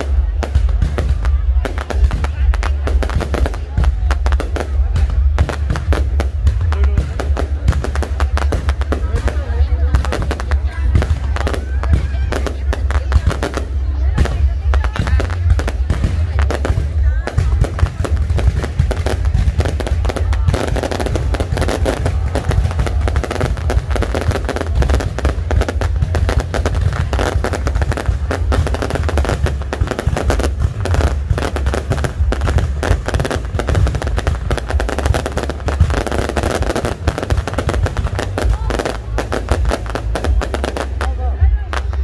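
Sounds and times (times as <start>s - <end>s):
fireworks bangs and crackling: 0.0s - 42.0s
heavy low rumble: 0.0s - 42.0s.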